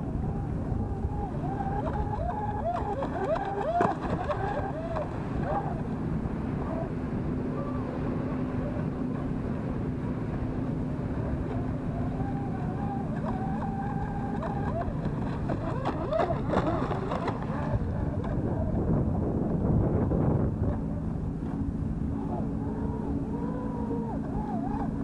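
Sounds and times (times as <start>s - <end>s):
choppy water: 0.0s - 25.0s
distant electric motor whine: 0.0s - 25.0s
wind at microphone: 0.0s - 25.0s.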